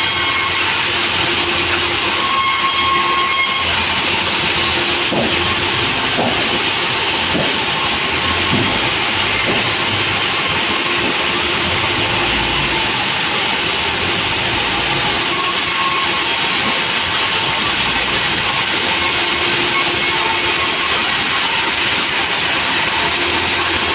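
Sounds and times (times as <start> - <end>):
sawmill machinery running: 0.0 - 23.9.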